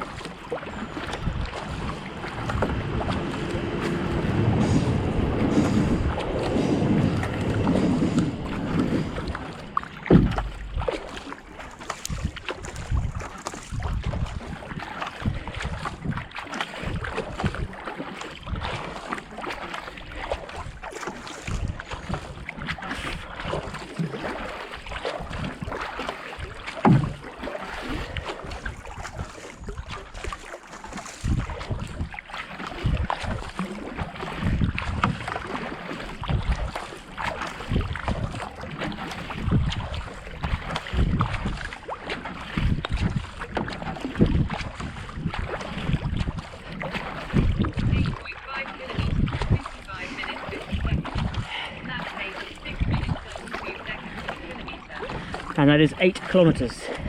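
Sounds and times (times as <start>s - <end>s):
wind buffeting microphone: 0.0s - 17.8s, 18.4s - 19.0s, 20.0s - 23.9s, 27.9s - 57.0s
kayak paddle strokes splashing: 0.0s - 57.0s.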